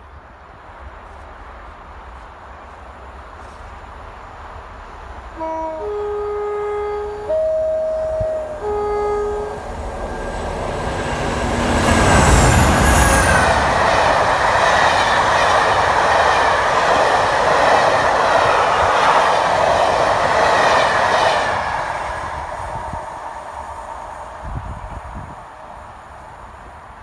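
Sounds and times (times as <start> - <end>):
coaches rushing past on rails: 0.0 - 27.0
diesel locomotive engine passing: 0.0 - 27.0.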